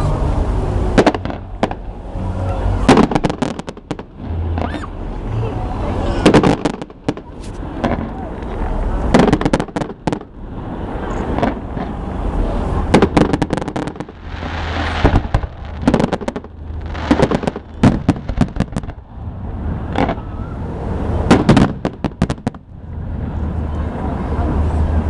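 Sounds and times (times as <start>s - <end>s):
fireworks bangs and crackles: 0.8s - 24.8s.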